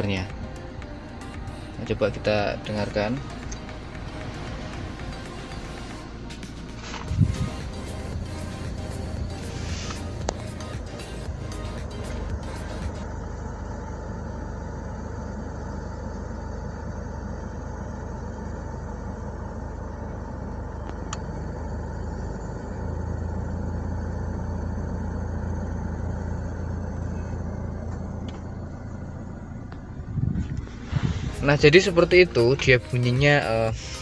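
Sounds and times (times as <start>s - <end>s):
blower motor whirring: 0.0s - 34.0s.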